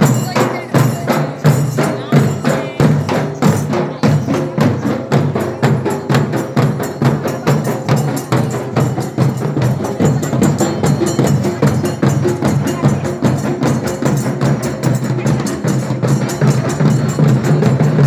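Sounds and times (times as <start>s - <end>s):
barrel drums beaten with sticks: 0.0s - 18.0s.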